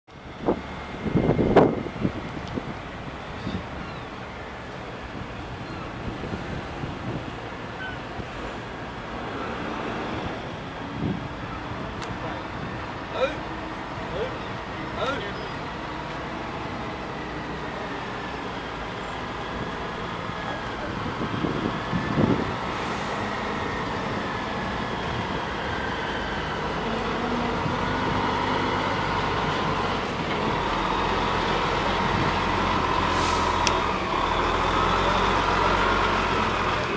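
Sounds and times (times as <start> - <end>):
truck diesel engine running: 0.1 - 36.9.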